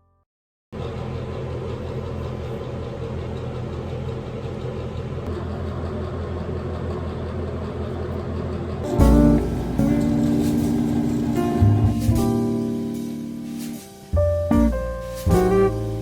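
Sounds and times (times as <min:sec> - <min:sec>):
engine humming steadily: 0:00.8 - 0:16.0.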